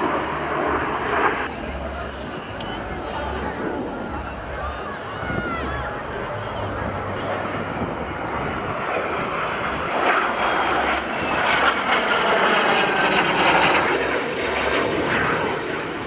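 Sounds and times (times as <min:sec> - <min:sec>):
jet aircraft roaring overhead: 0:00.0 - 0:16.0.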